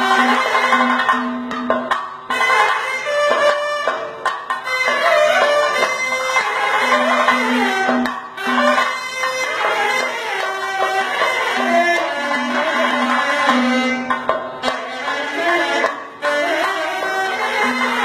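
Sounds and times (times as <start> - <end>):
drums playing: 0.0 - 18.0.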